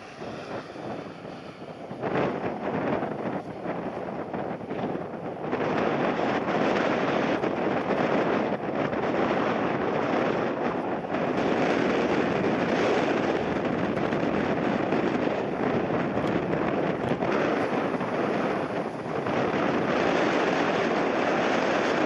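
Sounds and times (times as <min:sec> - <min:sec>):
jet engine noise: 0:00.0 - 0:22.0
wind buffeting microphone: 0:00.0 - 0:22.0.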